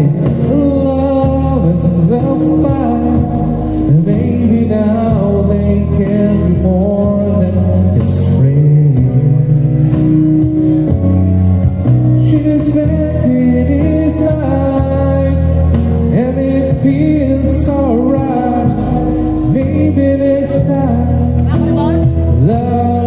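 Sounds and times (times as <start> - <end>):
man singing into microphone: 0.0 - 10.8, 12.0 - 23.0
karaoke backing music: 0.0 - 23.0.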